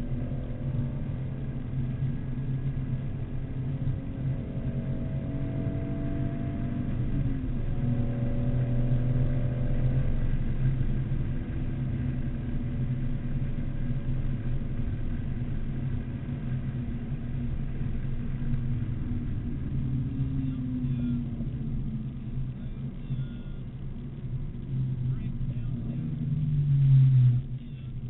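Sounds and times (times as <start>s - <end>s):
car engine pulling: 0.0s - 28.0s
road noise: 0.0s - 28.0s.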